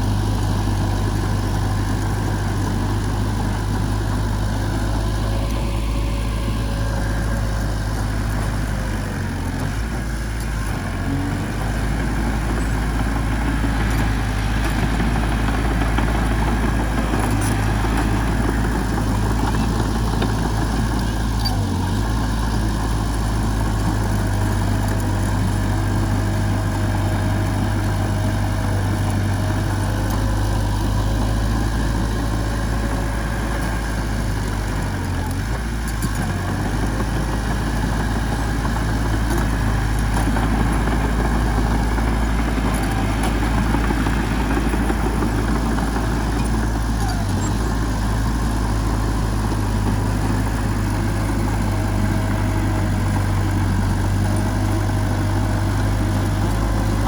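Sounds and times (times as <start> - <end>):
heavy diesel engine idling: 0.0 - 57.0.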